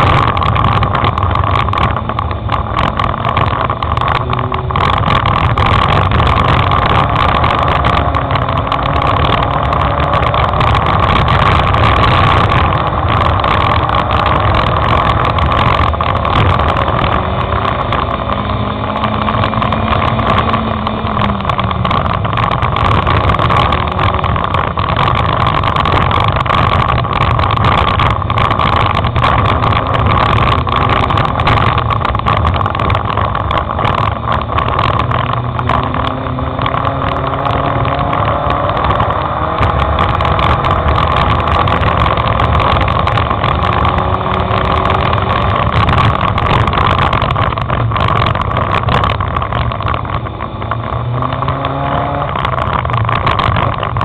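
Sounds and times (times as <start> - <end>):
race car engine running hard: 0.0 - 54.0
road and wind noise: 0.0 - 54.0.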